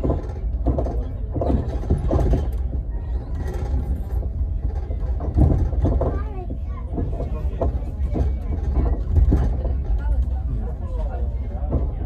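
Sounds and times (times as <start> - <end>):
faint voices: 0.0 - 12.0
train low rumble: 0.0 - 12.0.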